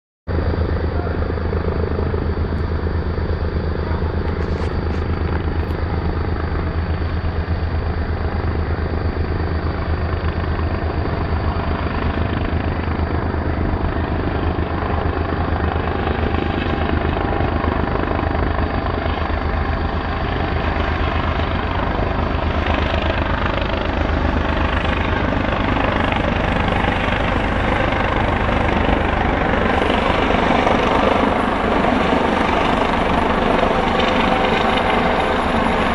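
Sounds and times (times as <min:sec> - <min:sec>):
helicopter rotor beating: 0:00.3 - 0:35.9.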